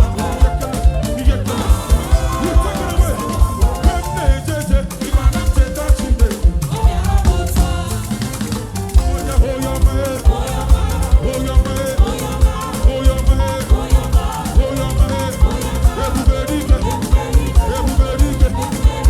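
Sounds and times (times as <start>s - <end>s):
driving drum beat: 0.0s - 19.0s
gospel band playing: 0.0s - 19.0s.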